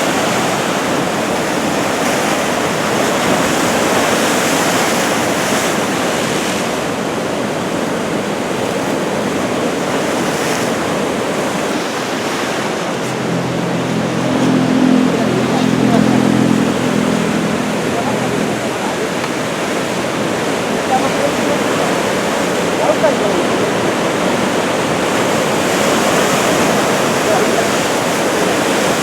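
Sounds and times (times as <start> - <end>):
waves breaking on shore: 0.0 - 29.0.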